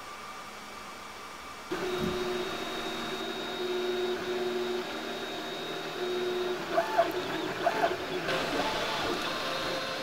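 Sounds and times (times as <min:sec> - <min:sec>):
printer stepper motors whining: 0:01.7 - 0:10.0.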